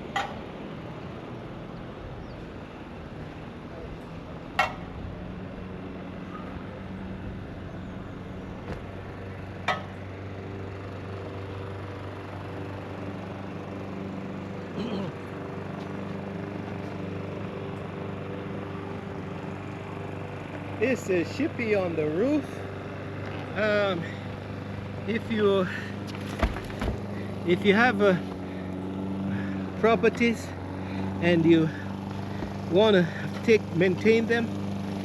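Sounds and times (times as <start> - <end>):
low motor hum: 0.0 - 35.0.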